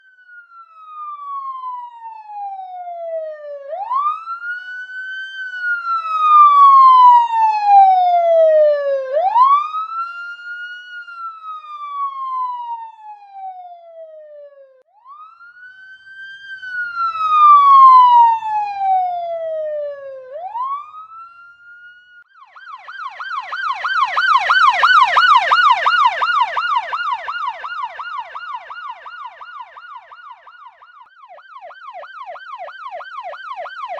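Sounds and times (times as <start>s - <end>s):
police siren wailing and yelping: 0.0s - 33.9s.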